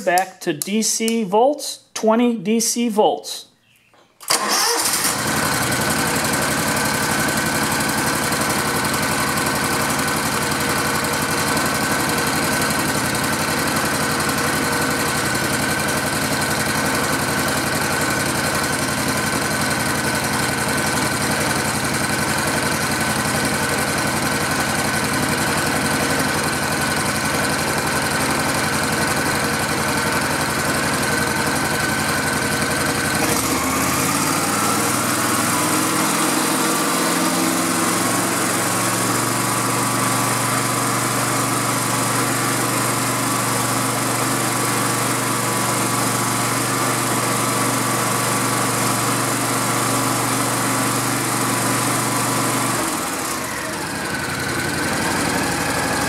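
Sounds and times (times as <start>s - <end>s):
lawn mower engine running: 4.2s - 56.0s.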